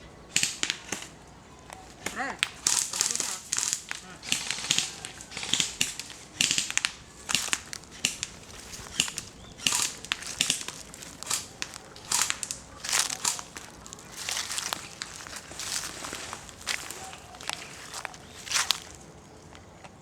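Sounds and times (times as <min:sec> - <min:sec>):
footsteps crunching dry vegetation: 0:01.6 - 0:19.4.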